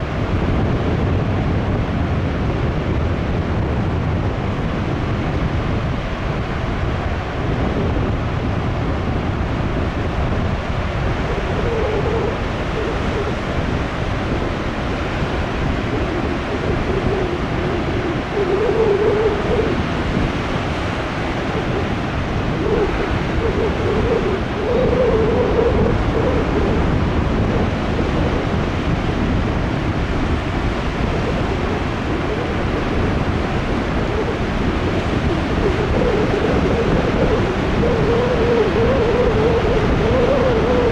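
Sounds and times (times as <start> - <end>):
large waves breaking: 0.0 - 40.9
wind on microphone: 0.0 - 40.9.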